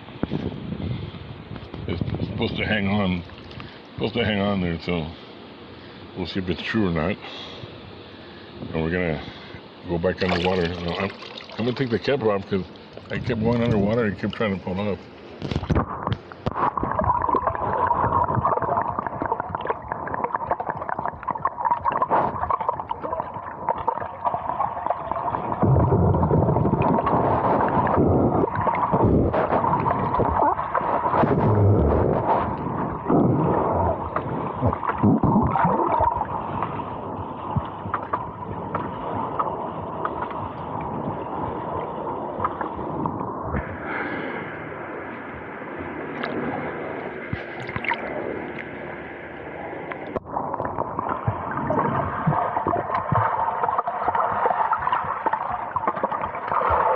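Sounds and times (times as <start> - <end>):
steady hum: 0.0 - 56.9
underwater gurgling and rushing: 9.3 - 56.9.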